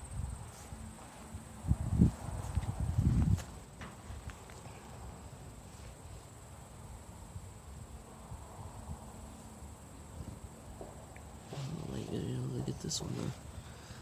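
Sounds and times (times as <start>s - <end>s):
low rumble of wind: 0.0s - 14.0s.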